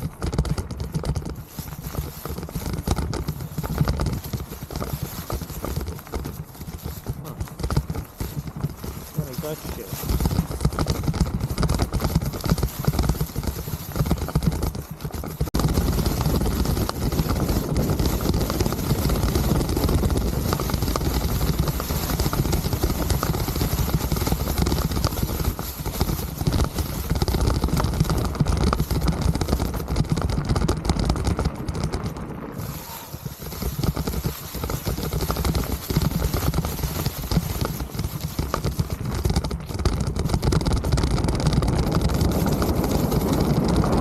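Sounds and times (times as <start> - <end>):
bike rattling: 0.0 - 44.0
tyre rumble: 0.0 - 44.0
wind buffeting microphone: 0.8 - 44.0.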